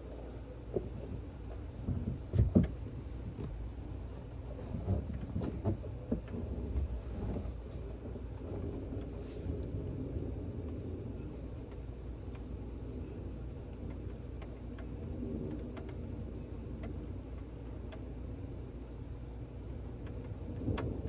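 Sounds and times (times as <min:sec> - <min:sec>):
thunder rumbling: 0:00.0 - 0:21.0
thunder crackling: 0:01.1 - 0:21.0.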